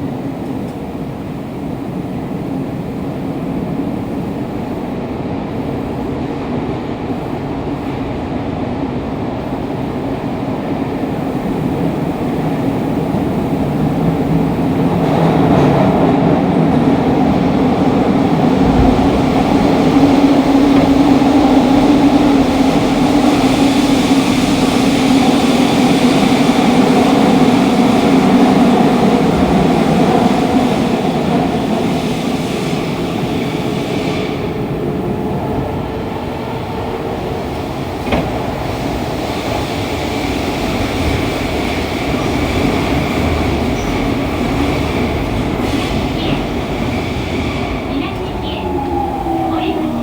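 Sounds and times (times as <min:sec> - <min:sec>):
train running in tunnel: 0:00.0 - 0:50.0.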